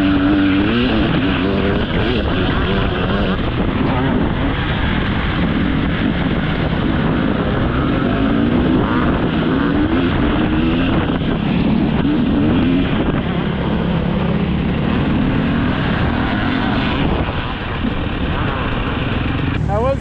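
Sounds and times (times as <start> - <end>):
dirt bike engine revving: 0.0 - 20.0
wind buffeting microphone: 0.0 - 20.0.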